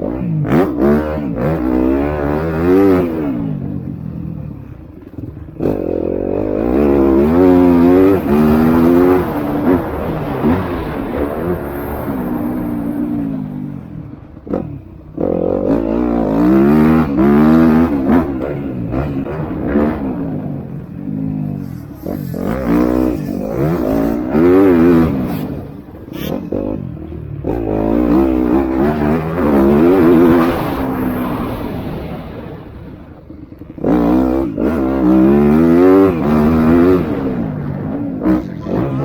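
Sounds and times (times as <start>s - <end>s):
motocross bikes revving: 0.0s - 39.0s.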